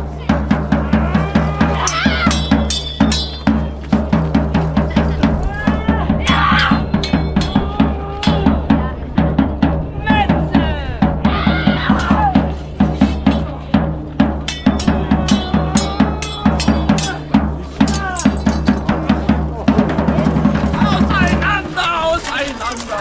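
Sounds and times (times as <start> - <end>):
drums beating fast rhythm: 0.0 - 23.0
voices calling out: 0.0 - 23.0.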